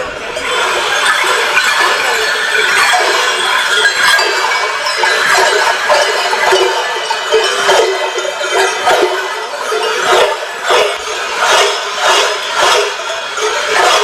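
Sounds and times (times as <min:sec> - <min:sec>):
large cowbells clanging: 0:00.0 - 0:14.0.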